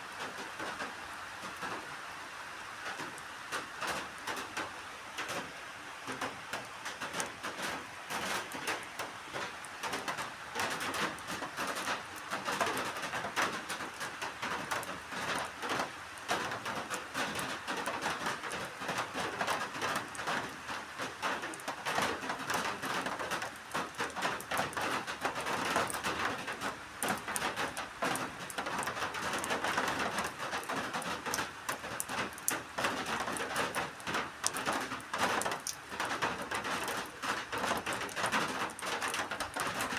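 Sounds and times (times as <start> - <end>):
rain falling: 0.0 - 39.9
raindrops tapping on surfaces: 0.1 - 39.9.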